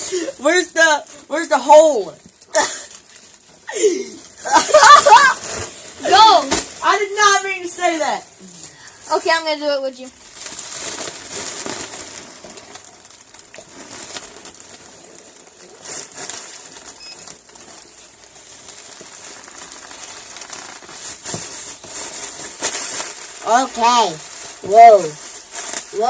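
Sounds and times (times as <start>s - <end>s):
balloon rubber rustling: 0.0s - 26.0s.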